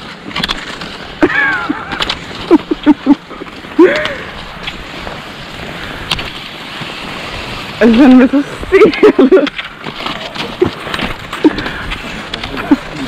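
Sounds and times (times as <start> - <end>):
ski poles clicking: 0.0 - 13.0
skis sliding and scraping on snow: 0.0 - 13.0.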